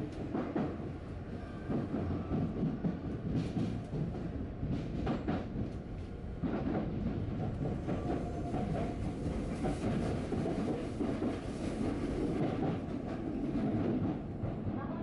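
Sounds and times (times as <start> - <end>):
electric train rumbling on rails: 0.0 - 15.0
oncoming train passing: 0.0 - 15.0.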